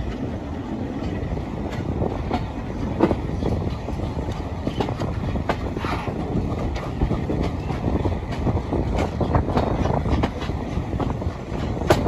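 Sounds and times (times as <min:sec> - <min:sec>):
train rumbling on track: 0:00.0 - 0:12.0
wheels clicking and knocking: 0:00.0 - 0:12.0.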